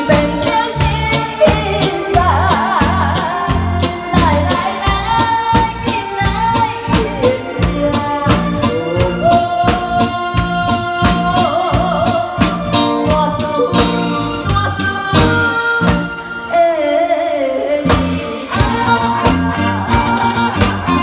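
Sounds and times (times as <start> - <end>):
drum kit beat: 0.0 - 16.3, 17.8 - 21.0
electric guitars: 0.0 - 21.0
keyboard: 0.0 - 21.0
woman singing into microphone: 0.0 - 21.0.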